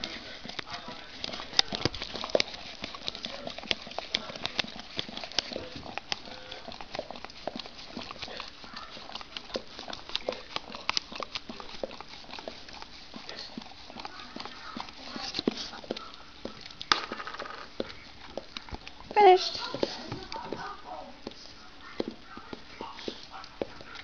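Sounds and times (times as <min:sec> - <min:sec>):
dogs licking a plastic pot: 0:00.0 - 0:24.0.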